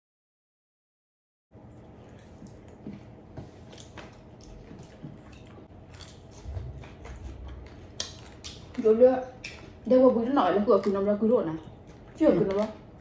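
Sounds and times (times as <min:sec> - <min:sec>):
people chewing food: 0:01.6 - 0:13.0.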